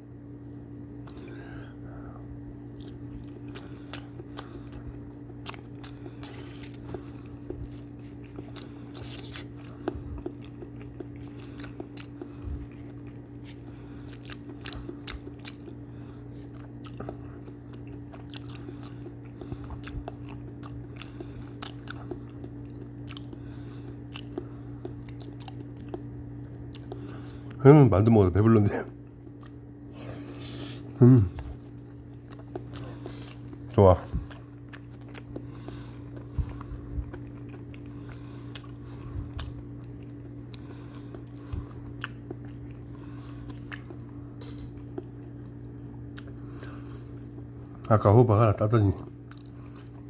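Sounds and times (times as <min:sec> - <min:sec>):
steady low hum: 0:00.0 - 0:50.0
person chewing food: 0:00.1 - 0:27.6, 0:28.8 - 0:47.9, 0:48.8 - 0:50.0.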